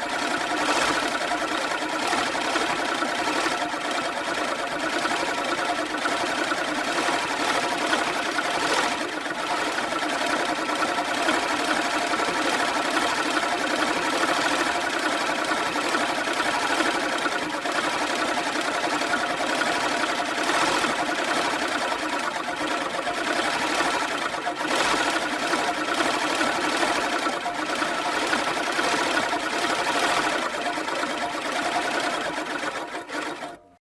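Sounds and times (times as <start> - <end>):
push reel lawnmower whirring: 0.0 - 33.8.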